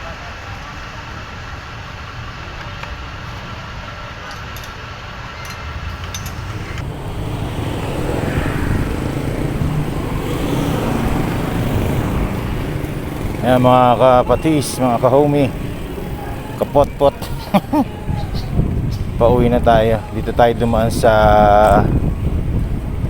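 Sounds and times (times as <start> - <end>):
road traffic rumble: 0.2 - 23.0.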